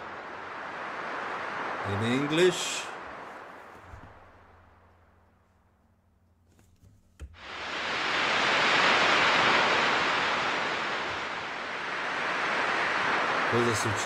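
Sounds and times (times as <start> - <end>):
sea waves breaking on shore: 0.0 - 5.4, 7.4 - 14.0.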